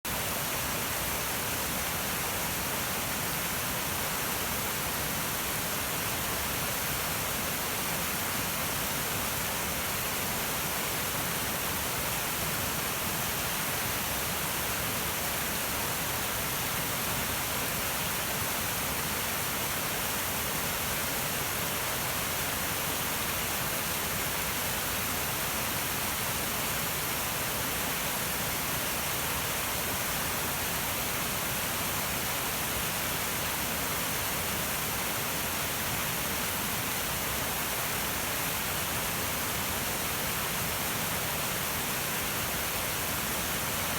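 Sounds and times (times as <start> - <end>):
river water rushing: 0.2 - 43.9.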